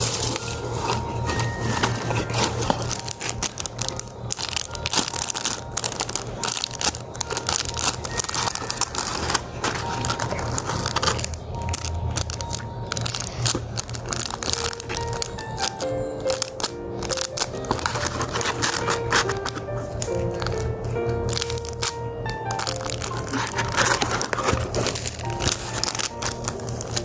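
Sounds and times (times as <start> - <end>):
paper crinkling: 0.0 - 27.0.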